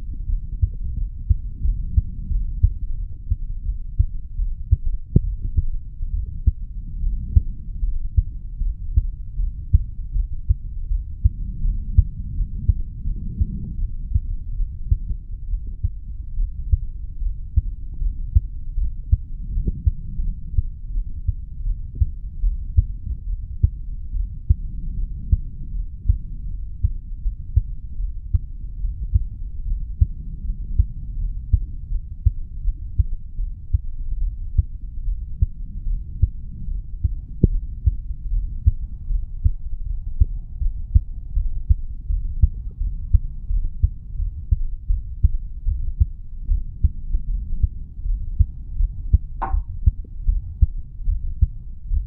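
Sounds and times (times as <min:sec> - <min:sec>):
heartbeat thuds: 0:00.0 - 0:52.0
low hum: 0:00.0 - 0:52.0.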